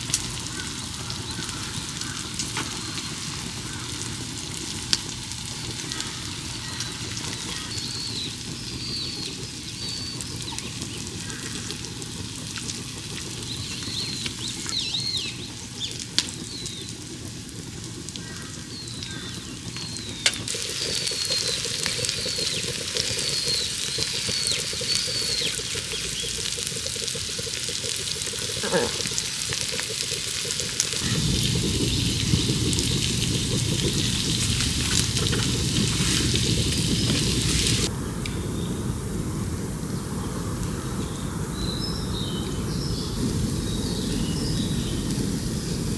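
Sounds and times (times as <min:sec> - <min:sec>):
food sizzling on a griddle: 0:00.0 - 0:37.9, 0:39.5 - 0:45.9.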